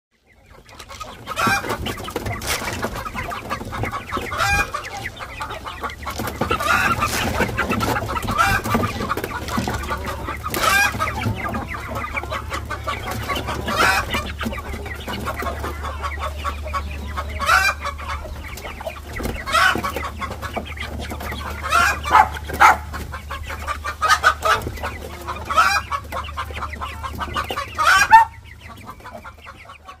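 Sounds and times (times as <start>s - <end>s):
chickens clucking: 0.2s - 30.0s.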